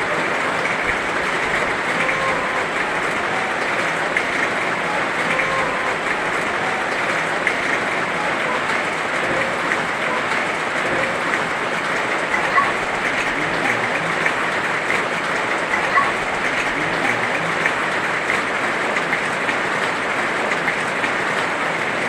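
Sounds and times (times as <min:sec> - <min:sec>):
raindrop ticks: 0:00.0 - 0:22.0.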